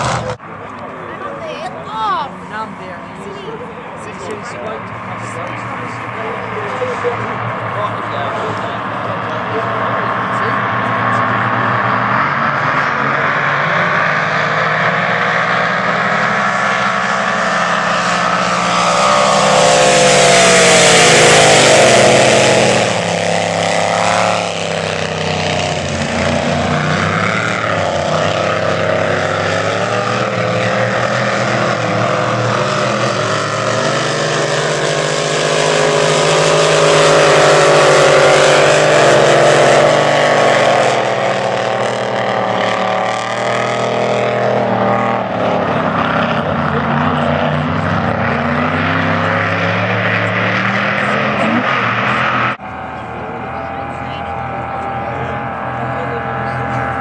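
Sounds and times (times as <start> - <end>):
race boat engines running hard: 0.0 - 51.4, 52.1 - 57.0.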